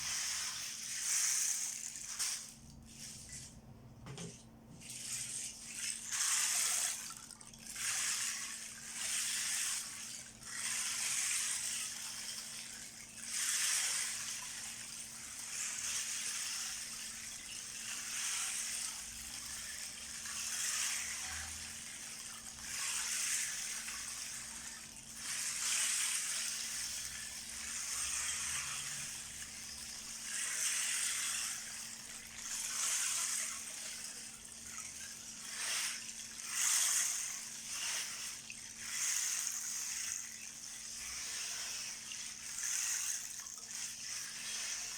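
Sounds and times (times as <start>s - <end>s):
ocean drum beads rolling: 0.0s - 3.6s, 4.8s - 44.9s.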